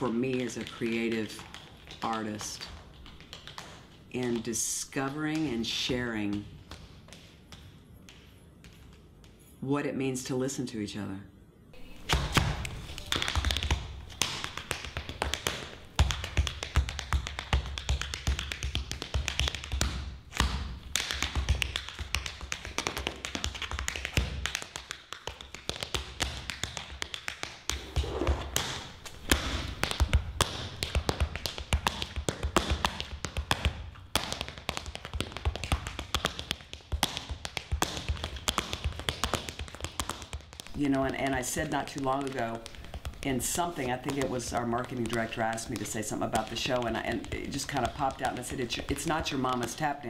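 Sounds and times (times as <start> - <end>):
tap shoes on stage floor: 0.0 - 9.4, 11.9 - 50.0.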